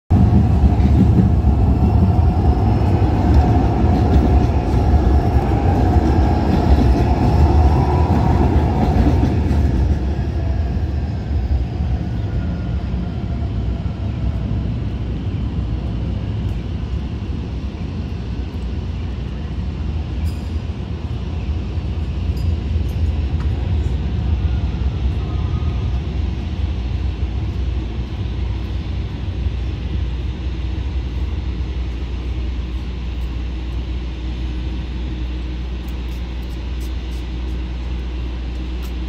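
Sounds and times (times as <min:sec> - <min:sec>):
city street noise: 0:00.1 - 0:39.0
light-rail train rumbling past: 0:00.1 - 0:39.0.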